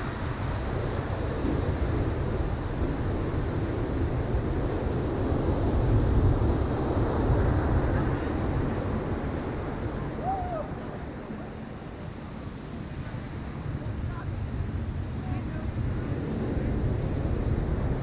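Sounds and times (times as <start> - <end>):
ocean surf breaking on beach: 0.0 - 18.0.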